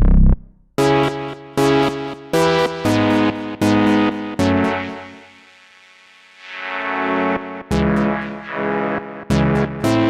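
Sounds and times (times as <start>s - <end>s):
synthesizer chords: 0.0s - 5.8s, 6.4s - 10.0s.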